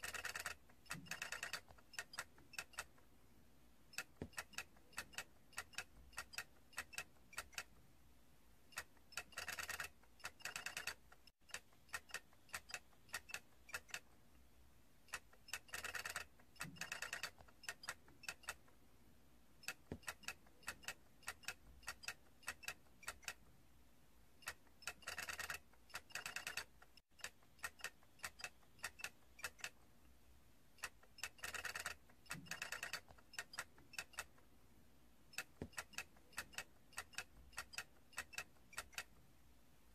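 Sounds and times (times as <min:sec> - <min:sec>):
plastic toy clicking: 0:00.0 - 0:03.0, 0:03.9 - 0:07.7, 0:08.7 - 0:14.1, 0:15.1 - 0:18.7, 0:19.6 - 0:23.4, 0:24.4 - 0:29.8, 0:30.8 - 0:34.4, 0:35.3 - 0:39.1.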